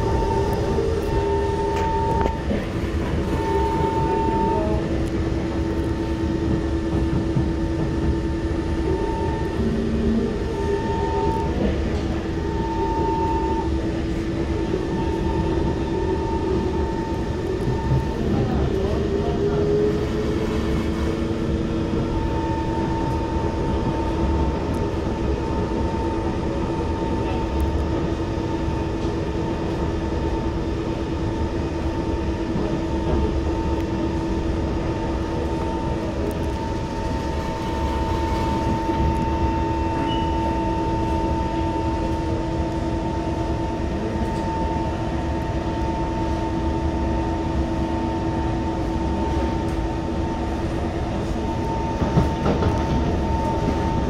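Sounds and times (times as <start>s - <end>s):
metro train rumbling: 0.0s - 54.0s
train humming tones: 0.0s - 54.0s.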